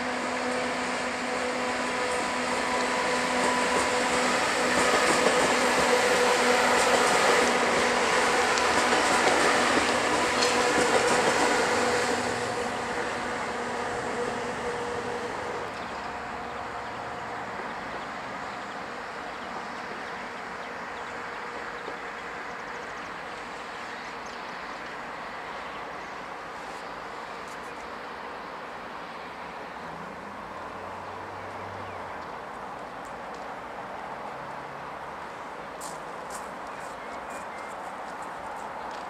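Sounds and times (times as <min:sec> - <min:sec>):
electric train passing: 0:00.0 - 0:39.0.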